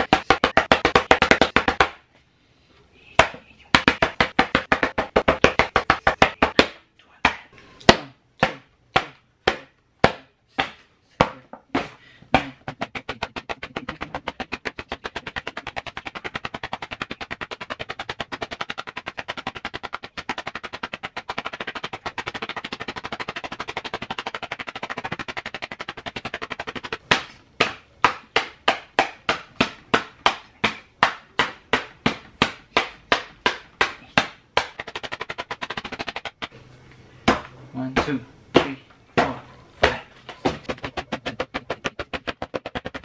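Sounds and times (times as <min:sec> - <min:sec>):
hand slapping paper: 0:00.0 - 0:02.1, 0:03.2 - 0:36.6, 0:37.3 - 0:43.0.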